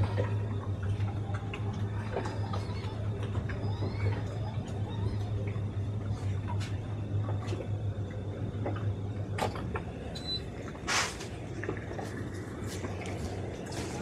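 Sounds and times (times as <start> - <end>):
outboard motors droning: 0.0 - 14.0.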